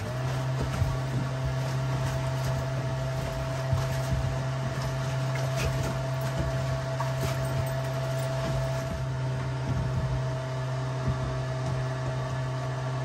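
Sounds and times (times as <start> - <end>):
ventilation blower motor humming: 0.0 - 13.0.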